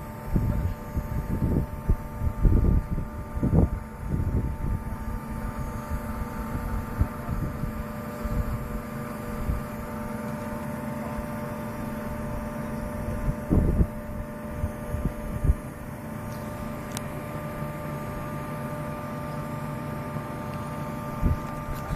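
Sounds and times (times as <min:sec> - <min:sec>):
machinery humming: 0:00.0 - 0:21.9.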